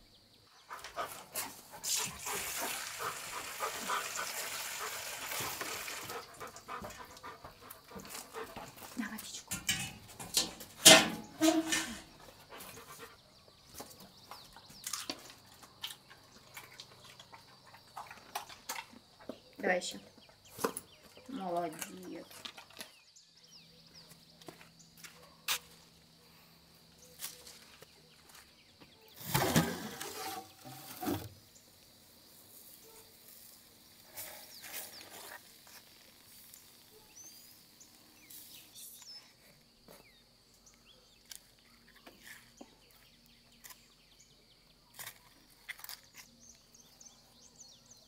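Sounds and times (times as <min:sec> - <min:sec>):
high insect hum: 0:00.0 - 0:48.0.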